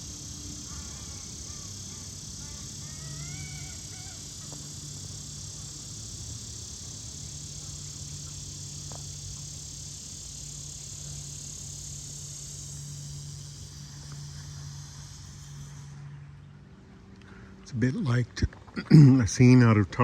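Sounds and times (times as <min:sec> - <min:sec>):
cicadas calling: 0:00.0 - 0:20.0.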